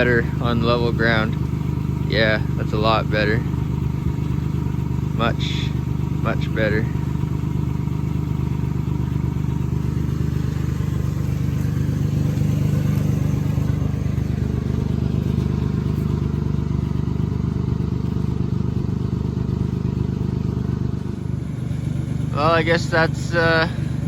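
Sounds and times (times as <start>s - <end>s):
pickup engine idling: 0.0s - 24.0s.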